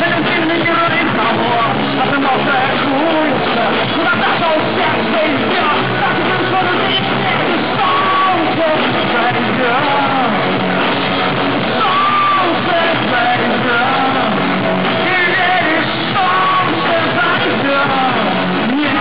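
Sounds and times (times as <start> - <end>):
drums: 0.0 - 19.0
electric guitars: 0.0 - 19.0
person singing: 0.0 - 19.0.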